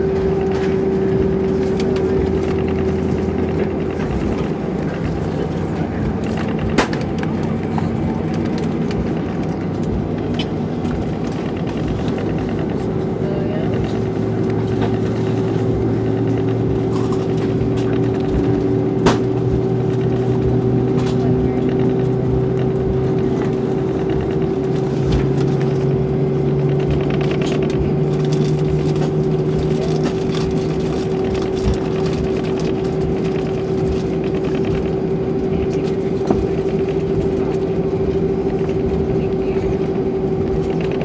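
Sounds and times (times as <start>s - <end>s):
jet engines humming and whining: 0.0s - 41.0s.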